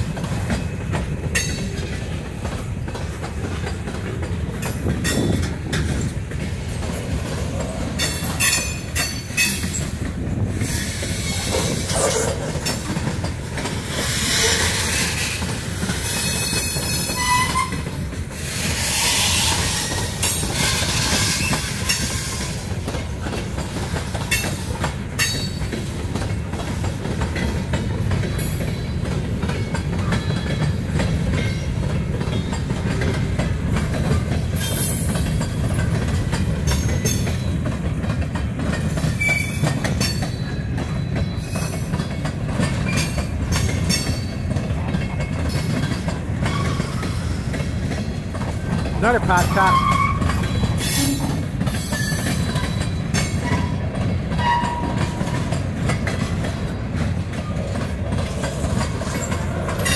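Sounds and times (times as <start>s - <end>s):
rail-joint clatter: 0.0s - 59.9s
train wheels rumbling on rail: 0.0s - 59.9s.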